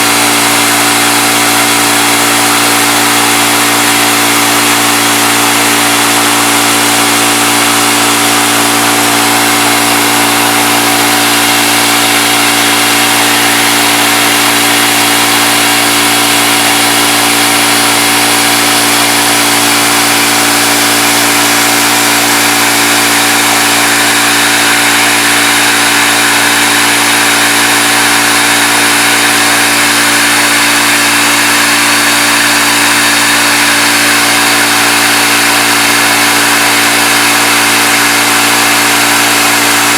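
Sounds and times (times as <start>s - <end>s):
milling machine whine: 0.0s - 39.9s.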